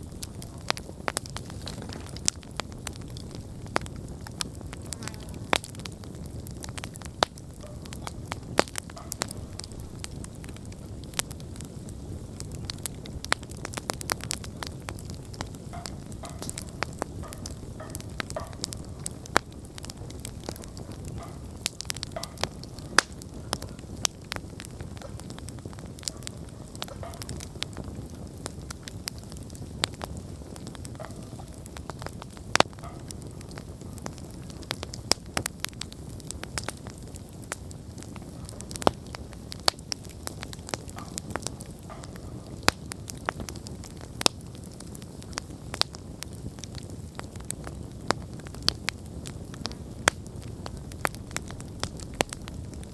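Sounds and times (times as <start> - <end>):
campfire crackling and popping: 0.0 - 52.9
low rumble of flame: 0.0 - 52.9.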